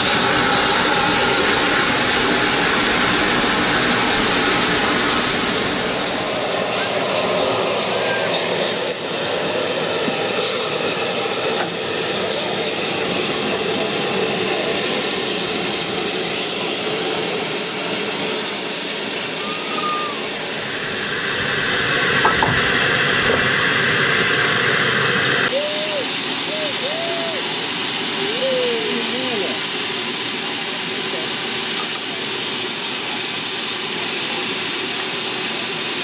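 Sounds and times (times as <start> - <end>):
locomotive steam hissing: 0.0 - 36.0.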